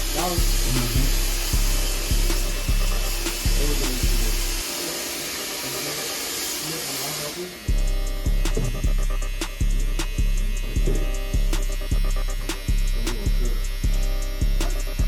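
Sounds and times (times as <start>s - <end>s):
hip-hop beat with deep bass: 0.0s - 15.0s.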